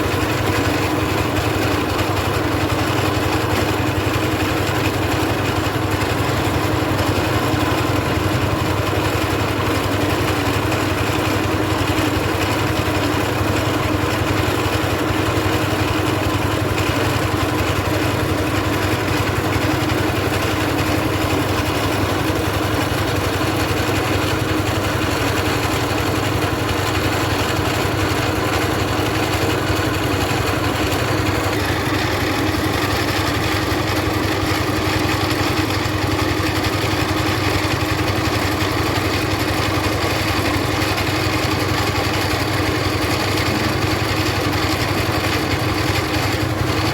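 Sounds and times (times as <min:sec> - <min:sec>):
milling machine engine humming: 0:00.0 - 0:46.9.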